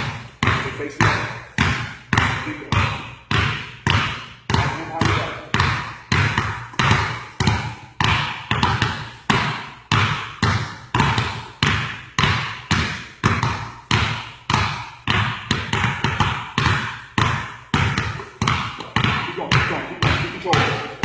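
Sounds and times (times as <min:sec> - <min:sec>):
basketballs bouncing on wooden floor: 0:00.0 - 0:21.0.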